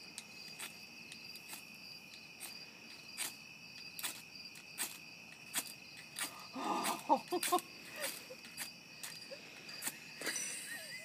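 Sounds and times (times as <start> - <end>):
crickets chirping: 0.0 - 11.0
knife scraping fire steel rod: 0.2 - 10.4.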